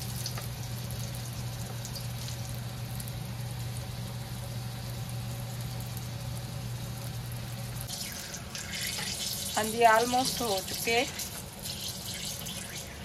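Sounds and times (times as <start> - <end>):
deep-frying sizzle with crackles: 0.0 - 13.0.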